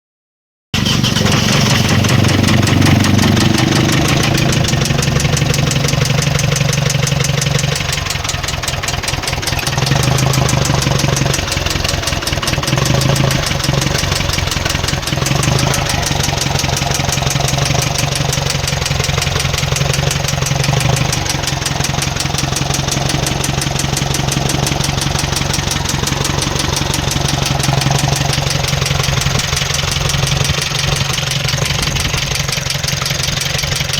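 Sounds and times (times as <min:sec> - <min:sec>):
diesel engine clattering: 0:00.8 - 0:33.9.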